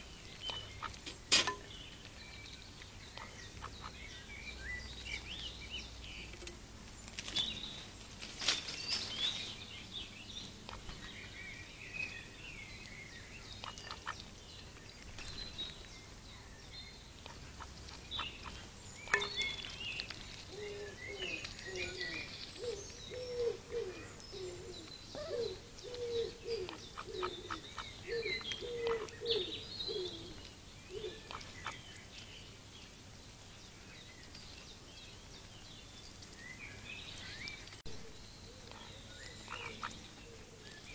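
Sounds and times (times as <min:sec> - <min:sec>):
small birds singing and chirping: 0:00.0 - 0:40.9.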